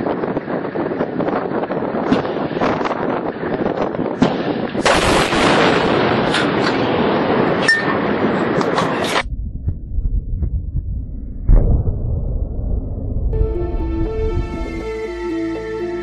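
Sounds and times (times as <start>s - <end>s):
wind buffeting microphone: 0.0s - 14.8s
explosion cracks and roar: 0.1s - 14.8s.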